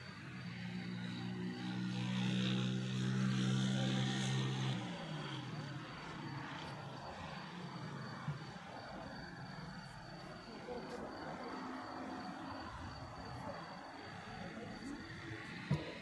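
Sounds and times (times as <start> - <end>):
passing engine droning: 0.2 - 16.0.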